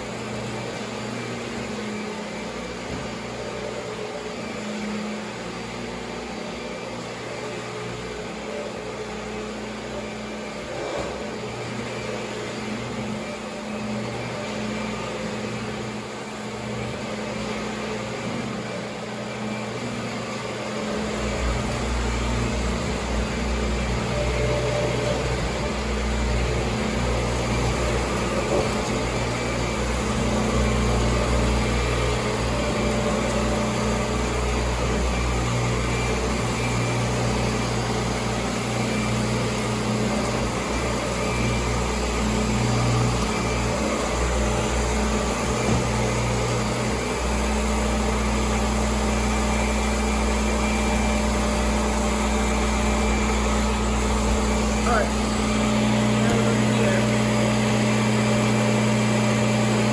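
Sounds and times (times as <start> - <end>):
upright vacuum cleaner running: 0.0 - 59.9.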